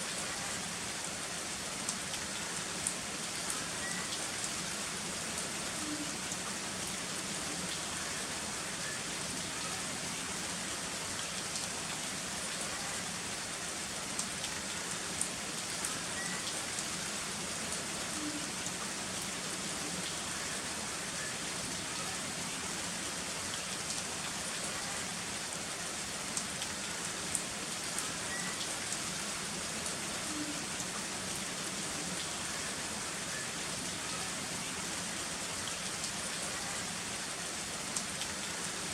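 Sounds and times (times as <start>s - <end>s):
heavy rain: 0.0s - 38.9s
raindrops ticking on surface: 1.7s - 9.8s, 11.0s - 34.3s, 35.0s - 38.9s.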